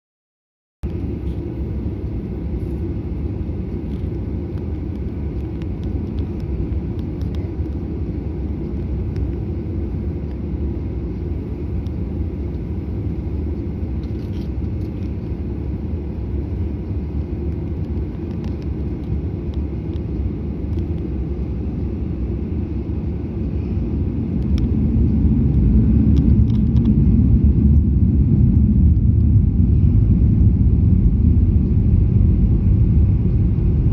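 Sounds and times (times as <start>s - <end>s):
airliner engine rumble: 0.8s - 33.9s.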